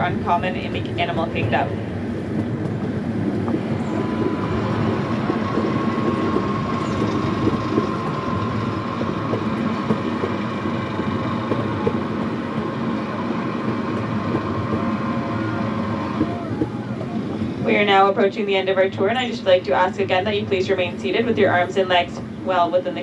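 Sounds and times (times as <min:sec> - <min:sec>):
train wheels rumbling and rattling: 0:00.0 - 0:23.0
thin steady whine: 0:03.3 - 0:23.0.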